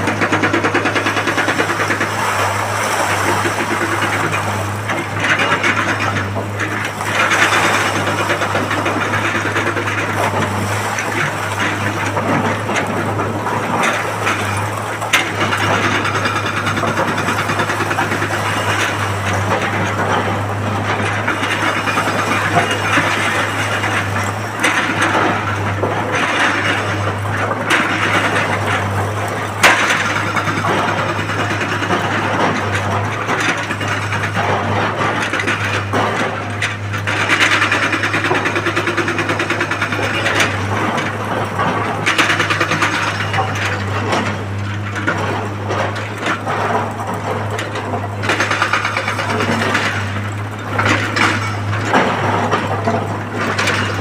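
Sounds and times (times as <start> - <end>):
excavator engine drone: 0.0 - 54.0.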